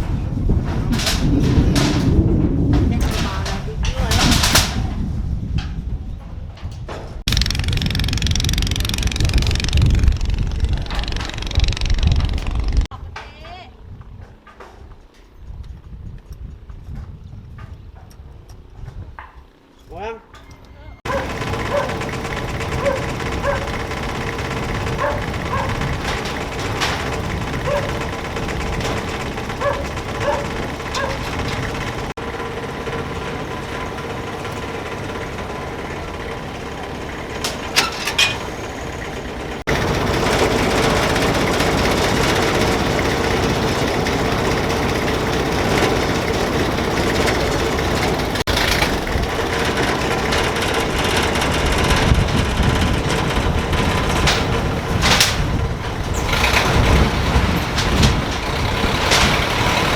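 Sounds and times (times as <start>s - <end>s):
engine humming: 0.0s - 12.9s, 20.9s - 59.9s.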